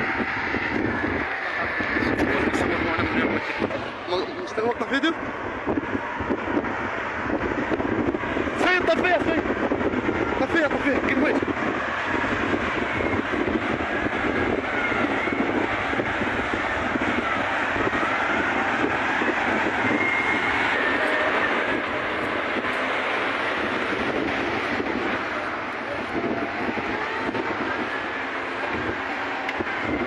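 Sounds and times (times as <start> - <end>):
bulldozer diesel engines: 0.0 - 30.0.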